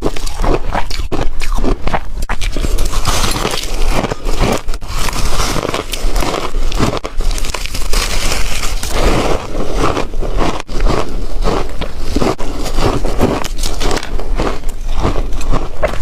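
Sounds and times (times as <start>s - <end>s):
ice crunching between teeth: 0.0s - 16.0s.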